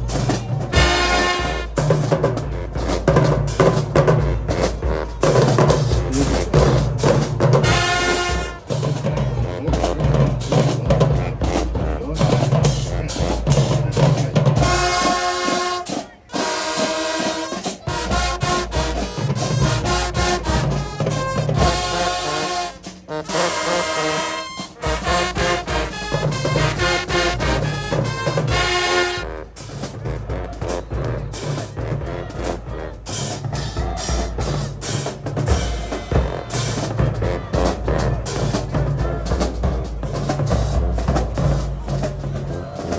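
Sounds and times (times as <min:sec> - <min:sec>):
marching band brass chords: 0:00.0 - 0:42.9
pounding drumline: 0:00.0 - 0:42.9.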